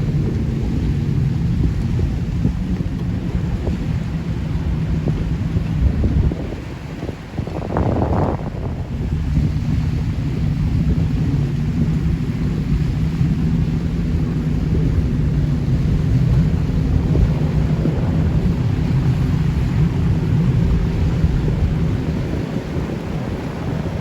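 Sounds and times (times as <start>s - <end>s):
jet ski engine drone: 0.0s - 24.0s
water noise: 0.0s - 24.0s
wind: 0.0s - 24.0s.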